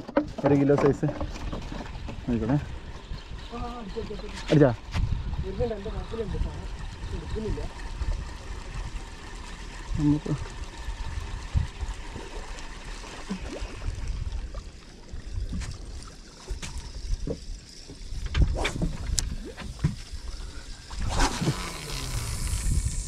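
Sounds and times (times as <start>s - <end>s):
water lapping against hull: 0.0s - 23.0s
wind rumbling on microphone: 1.1s - 9.1s, 9.8s - 12.4s, 13.6s - 23.0s.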